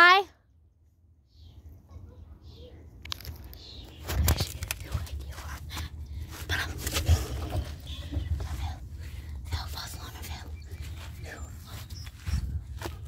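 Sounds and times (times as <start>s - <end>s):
steady low rumble: 1.8s - 13.0s.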